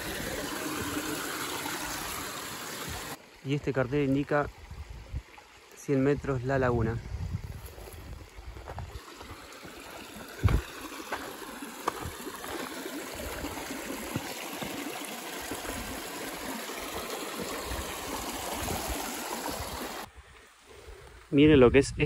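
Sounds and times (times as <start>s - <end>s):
stream trickling over rocks: 0.0s - 20.6s.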